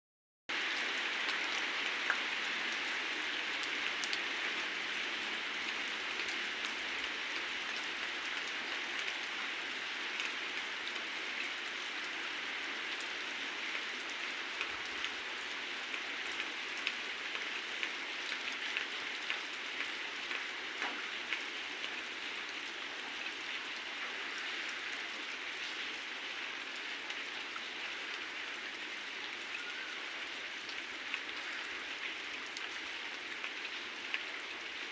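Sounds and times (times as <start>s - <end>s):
raindrops ticking on a surface: 0.6s - 34.9s.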